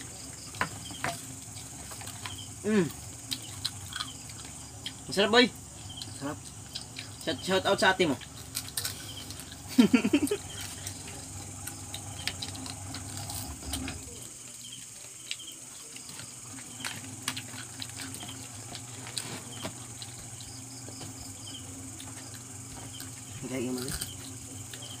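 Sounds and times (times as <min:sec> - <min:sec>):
crickets trilling: 0:00.0 - 0:25.0
people crunching crispy food: 0:00.0 - 0:25.0.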